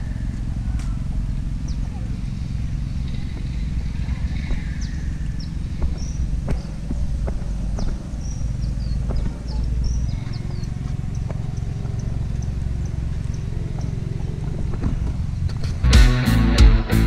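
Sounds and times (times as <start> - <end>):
small birds chirping: 0.0 - 15.9
steady low rumble: 0.0 - 17.0
footsteps on paved path: 0.8 - 15.9.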